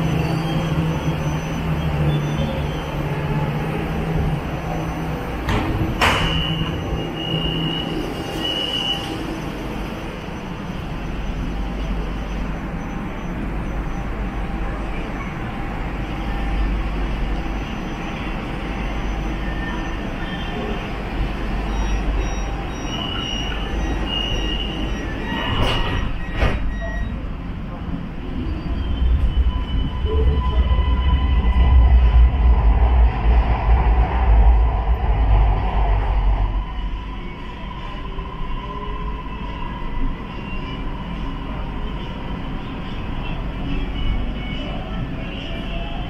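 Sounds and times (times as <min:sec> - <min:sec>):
metro train rumbling: 0:00.0 - 0:46.0.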